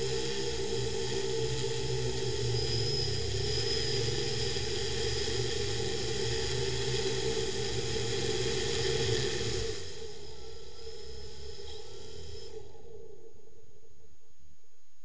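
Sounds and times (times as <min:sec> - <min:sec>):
drone propellers whirring: 0:00.0 - 0:12.5.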